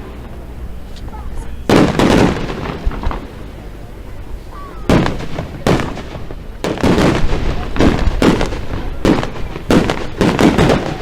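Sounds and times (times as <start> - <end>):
fireworks booming: 0.0 - 11.0.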